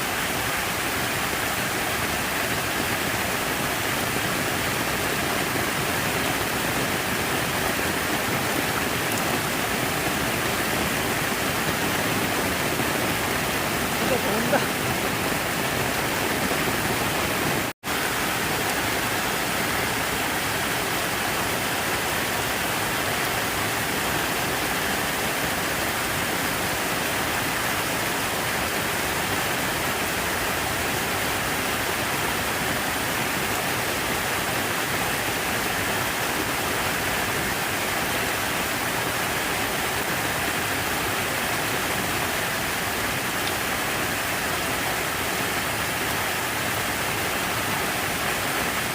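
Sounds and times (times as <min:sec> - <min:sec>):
falling water rushing: 0:00.0 - 0:48.9.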